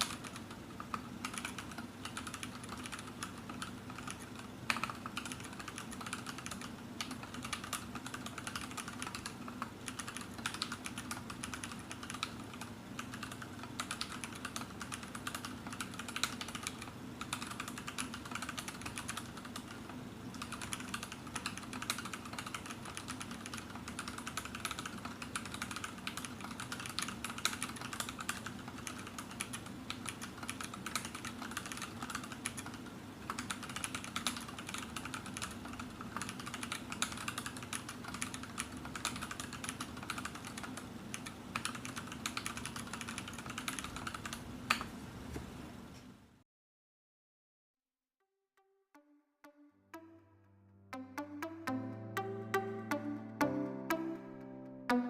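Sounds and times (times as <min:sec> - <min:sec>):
mechanical keyboard typing: 0:00.0 - 0:44.9.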